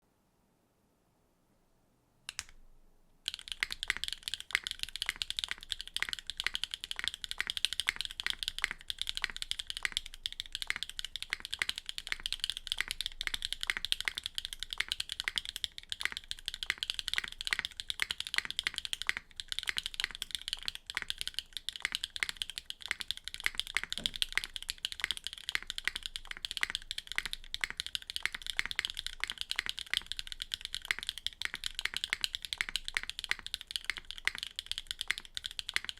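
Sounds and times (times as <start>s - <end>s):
mechanical keyboard typing: 3.3s - 35.9s.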